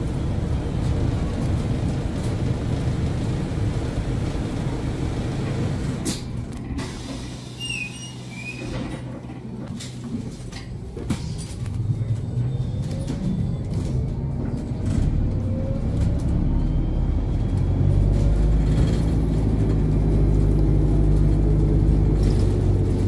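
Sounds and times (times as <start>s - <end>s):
bus engine rumble: 0.0s - 23.0s
bus whine: 0.0s - 23.0s.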